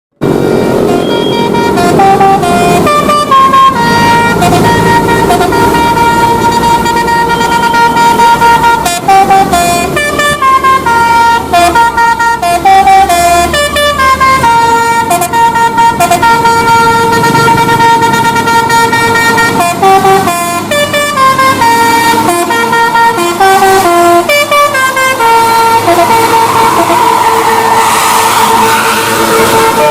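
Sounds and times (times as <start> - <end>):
musical vehicle horn melody: 0.2 - 29.9.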